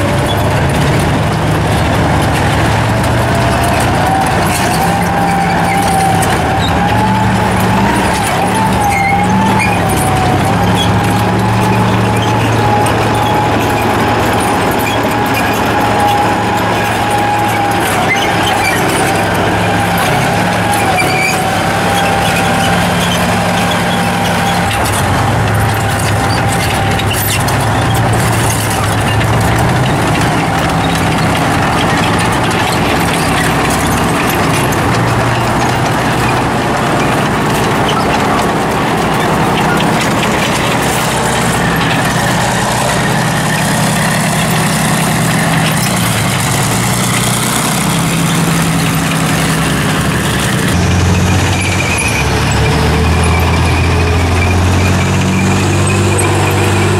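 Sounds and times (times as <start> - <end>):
steel tracks clattering: 0.0 - 56.9
tank diesel engine running: 0.0 - 56.9.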